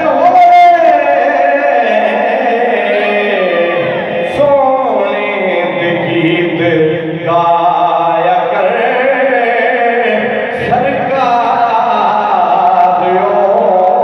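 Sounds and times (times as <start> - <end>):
man chanting into a microphone: 0.0 - 14.0.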